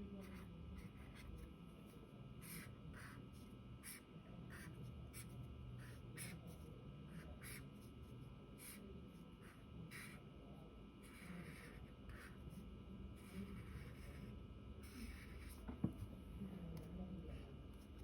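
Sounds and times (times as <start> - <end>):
low room hum: 0.0 - 18.0
felt-tip pen scratching on paper: 0.1 - 8.8, 9.4 - 10.2, 11.0 - 16.1.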